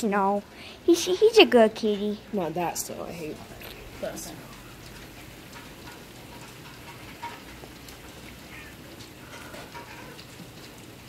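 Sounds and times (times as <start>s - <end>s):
hiss of falling rain: 0.0s - 11.0s
light patter and ticks: 0.0s - 11.0s.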